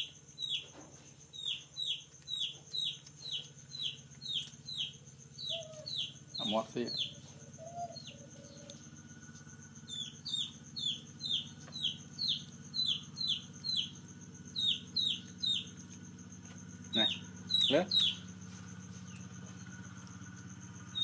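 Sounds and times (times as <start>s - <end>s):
bird chirping: 0.0s - 8.9s, 9.8s - 15.9s, 16.8s - 19.8s.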